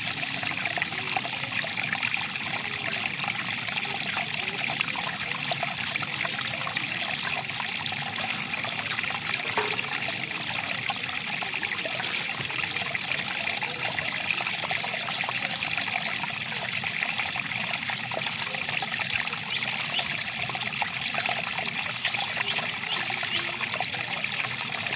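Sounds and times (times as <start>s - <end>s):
water trickling over stones: 0.0s - 24.9s.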